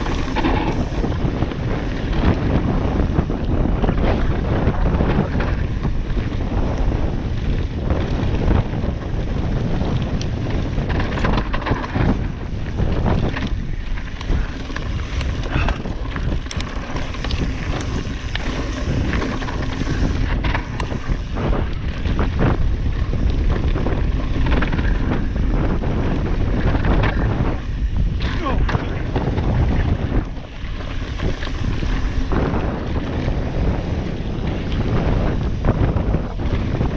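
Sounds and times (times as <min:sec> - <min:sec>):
bike rattling clicks and knocks: 0:00.0 - 0:36.9
wind buffeting microphone: 0:00.0 - 0:36.9.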